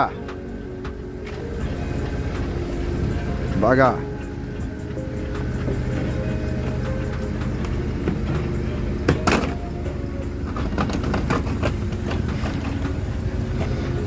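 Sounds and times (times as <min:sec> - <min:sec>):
engine hum: 0:00.0 - 0:14.0
car wheels clunking off ramp: 0:00.2 - 0:14.0.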